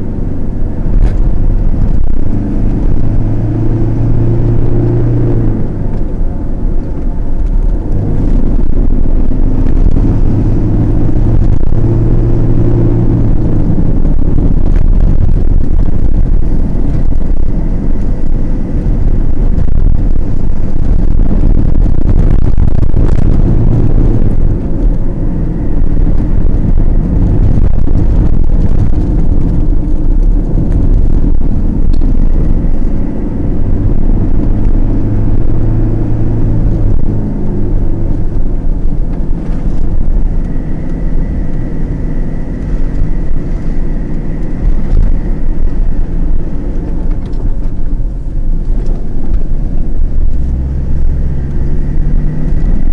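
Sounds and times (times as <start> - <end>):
car engine and road drone: 0.0 - 52.9.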